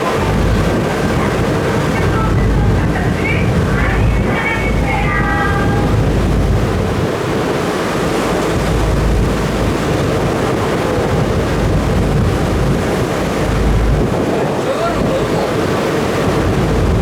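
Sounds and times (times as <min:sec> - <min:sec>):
ferry engine rumble: 0:00.0 - 0:17.0
water rushing past hull: 0:00.0 - 0:17.0
wind buffeting microphone: 0:00.0 - 0:17.0.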